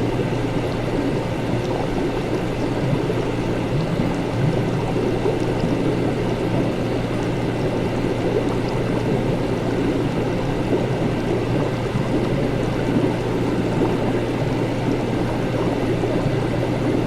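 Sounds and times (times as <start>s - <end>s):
constant low hum: 0.0s - 17.0s
liquid bubbling and gurgling: 0.0s - 17.0s.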